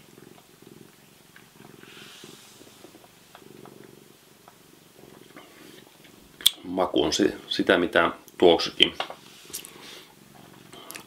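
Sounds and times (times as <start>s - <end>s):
cat purring: 0.0s - 11.0s
soft hiss: 0.0s - 11.0s.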